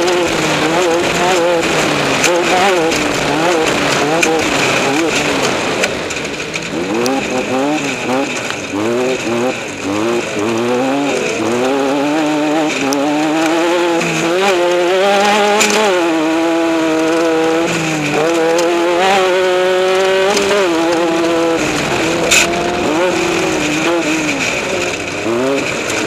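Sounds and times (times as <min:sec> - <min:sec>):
race vehicle engine revving: 0:00.0 - 0:26.0.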